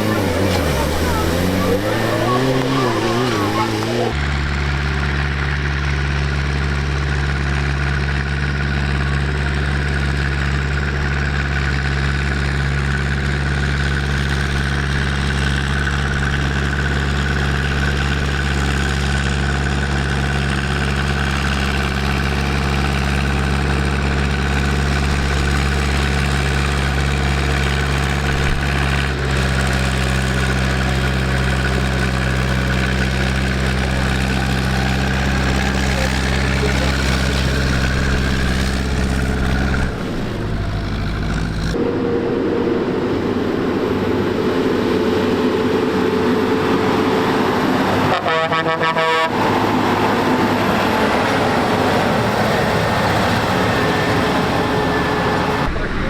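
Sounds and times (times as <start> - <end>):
tractor engine idling: 0.0 - 41.8, 42.8 - 56.0.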